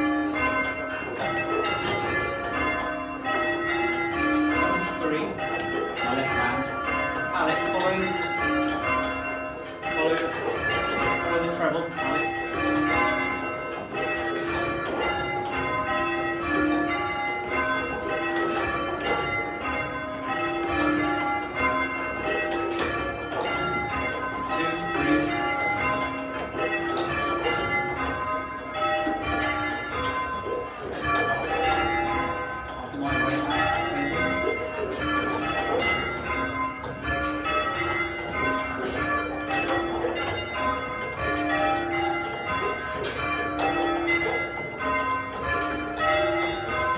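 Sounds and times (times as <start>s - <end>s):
church bells change ringing: 0.0s - 46.9s.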